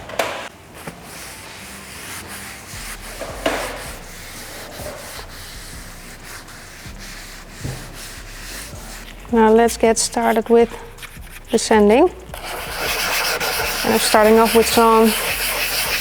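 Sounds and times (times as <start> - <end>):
hand rubbing headlight lens: 0.8 - 16.0.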